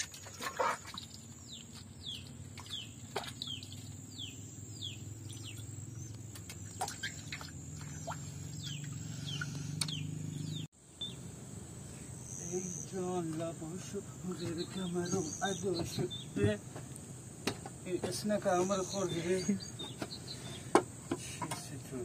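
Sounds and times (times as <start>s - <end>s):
insects droning: 0.0s - 22.0s
bird chirping: 0.4s - 22.0s.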